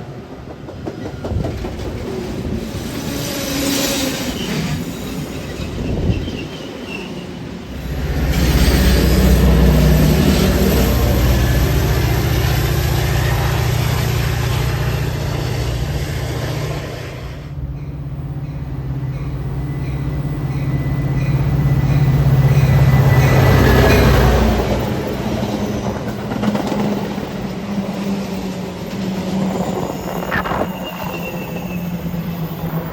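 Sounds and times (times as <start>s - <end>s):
diesel locomotive engine: 0.0s - 32.9s
train cars rolling on rails: 0.0s - 32.9s.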